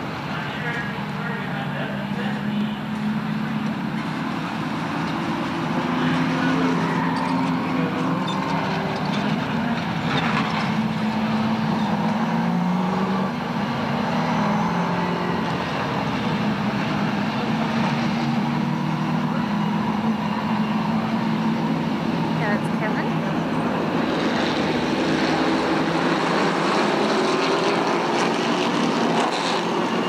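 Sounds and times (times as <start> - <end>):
stock car engines racing: 0.0 - 30.0.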